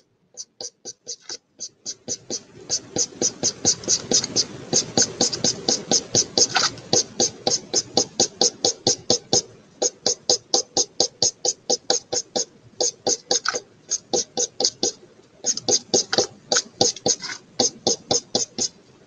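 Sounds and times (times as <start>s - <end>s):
marker scratching on paper: 0.0s - 18.8s.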